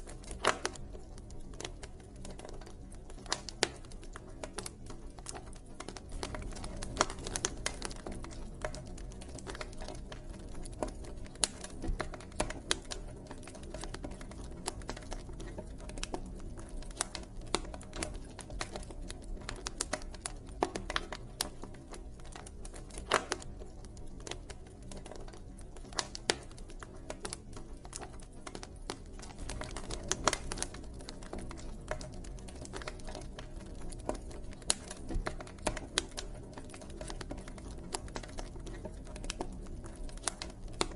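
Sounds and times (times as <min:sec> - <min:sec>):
burning wood popping and snapping: 0:00.0 - 0:40.9
low rumble of flames: 0:00.0 - 0:40.9.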